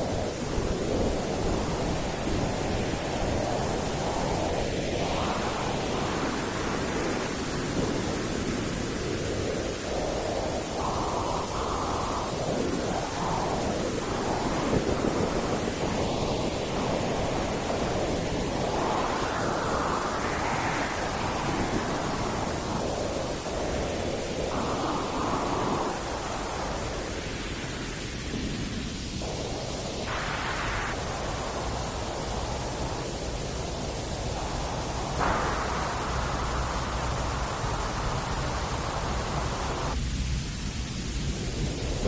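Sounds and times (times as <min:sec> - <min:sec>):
white noise hiss: 0:00.0 - 0:42.0.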